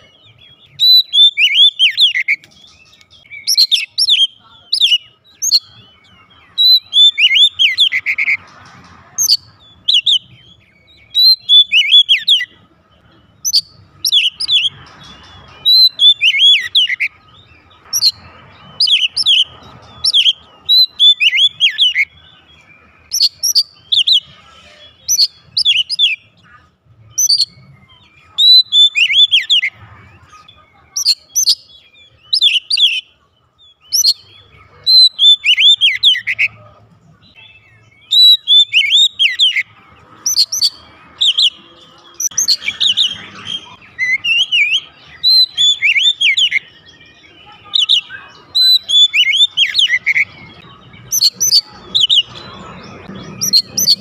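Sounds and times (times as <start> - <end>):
magpie-robin singing: 0.0 - 54.0.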